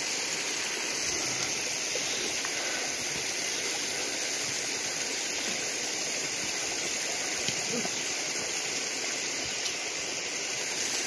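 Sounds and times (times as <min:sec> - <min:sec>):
mountain creek rushing: 0:00.0 - 0:11.0.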